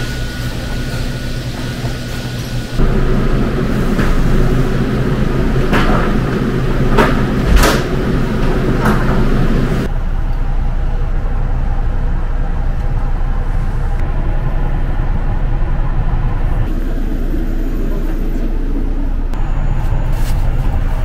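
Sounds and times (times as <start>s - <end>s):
low machinery hum: 0.0s - 21.0s.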